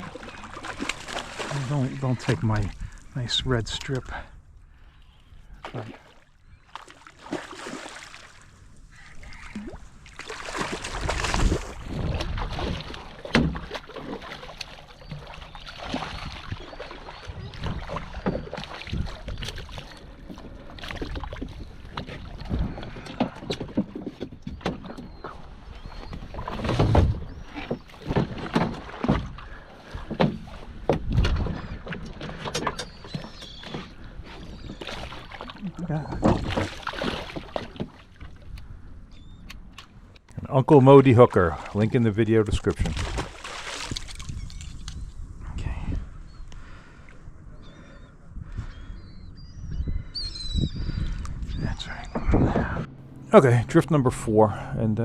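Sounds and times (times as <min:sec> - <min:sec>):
water sloshing against boat hull: 0:00.0 - 0:49.2, 0:50.4 - 0:55.0.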